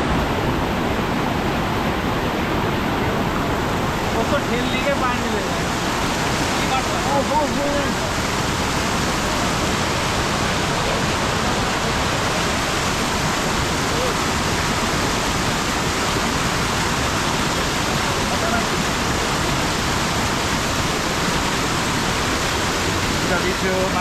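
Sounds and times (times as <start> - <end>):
fast-flowing water rushing: 0.0 - 24.0.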